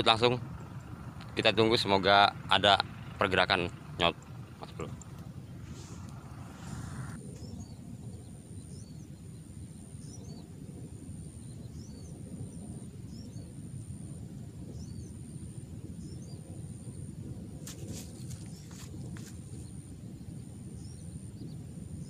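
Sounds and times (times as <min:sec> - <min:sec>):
faint high whine: 0:00.0 - 0:22.0
steady low rumble: 0:00.0 - 0:22.0
small bird chirping: 0:02.9 - 0:17.0, 0:17.6 - 0:22.0.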